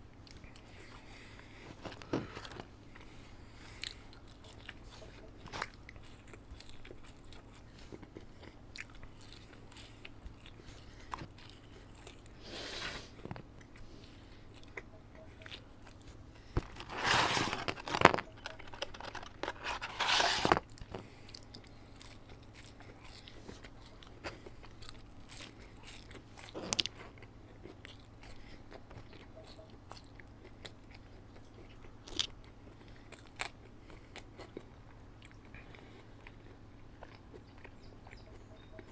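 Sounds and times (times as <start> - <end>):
chewing and biting food: 0.0 - 12.5, 13.1 - 20.0, 20.6 - 38.9.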